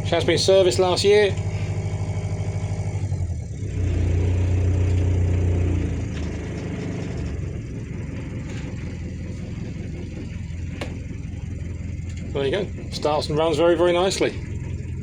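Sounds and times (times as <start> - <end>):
diesel boat engine idling: 0.0 - 15.0.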